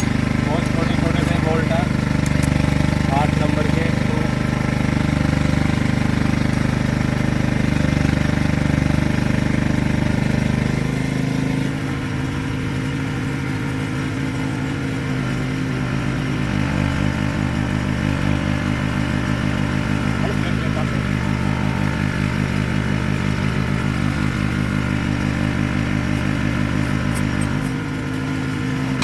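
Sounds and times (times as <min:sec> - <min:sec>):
motor running: 0:00.0 - 0:29.0.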